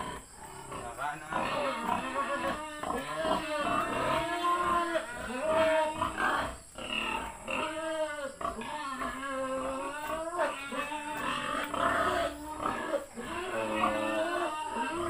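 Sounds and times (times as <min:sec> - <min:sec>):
pig squealing: 0:00.0 - 0:15.0.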